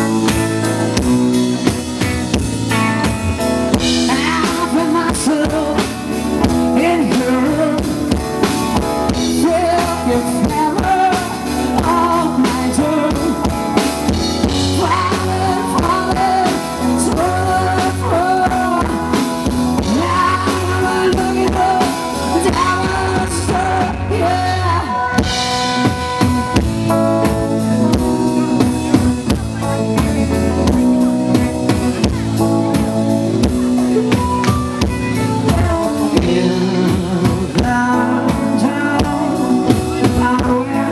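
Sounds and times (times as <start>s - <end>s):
bass guitar: 0.0s - 40.9s
drum kit: 0.0s - 40.9s
electric guitar: 0.0s - 40.9s
person singing: 3.7s - 40.9s.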